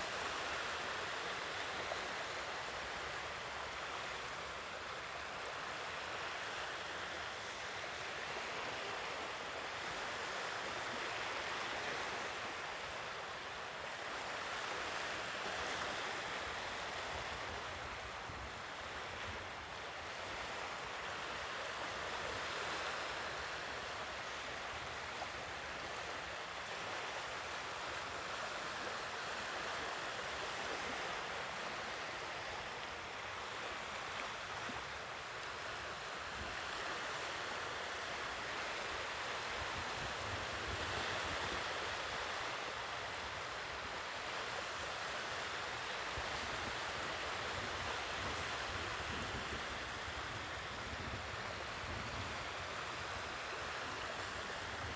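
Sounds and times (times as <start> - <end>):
sea waves washing on shore: 0.0 - 54.9.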